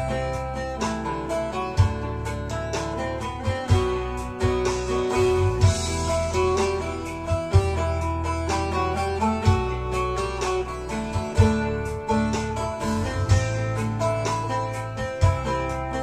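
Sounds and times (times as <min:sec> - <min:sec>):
long-necked lute melody: 0:00.0 - 0:16.0
sustained bass: 0:00.0 - 0:16.0
drum hits: 0:01.8 - 0:15.6.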